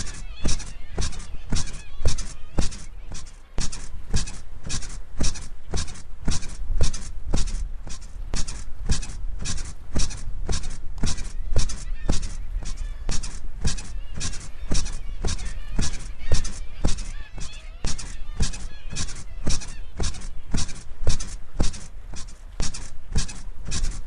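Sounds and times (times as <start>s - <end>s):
bed springs squeaking: 0.0s - 24.0s.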